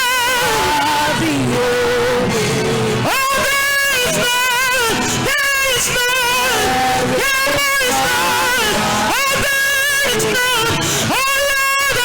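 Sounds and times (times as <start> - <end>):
worship music with vibrato melody: 0.0 - 12.0.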